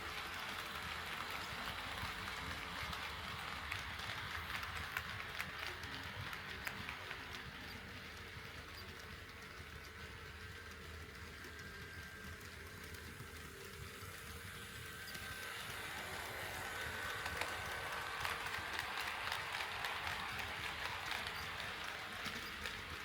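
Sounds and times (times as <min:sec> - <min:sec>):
model train rumble and motor whine: 0:00.0 - 0:23.0.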